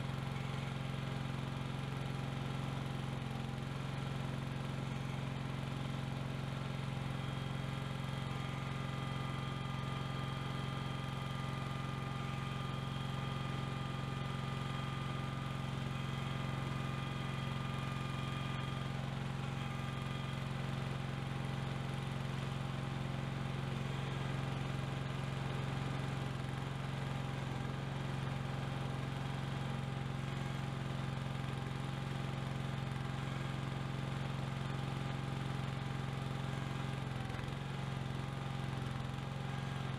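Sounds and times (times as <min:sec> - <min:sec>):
garden tractor engine droning: 0:00.0 - 0:39.9.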